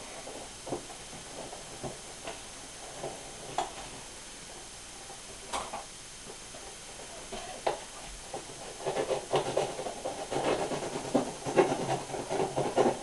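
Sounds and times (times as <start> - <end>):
quiet steady hiss: 0.0 - 13.0.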